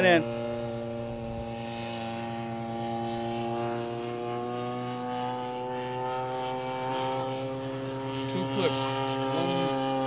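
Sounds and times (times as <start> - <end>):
model airplane engine buzzing: 0.0 - 10.0.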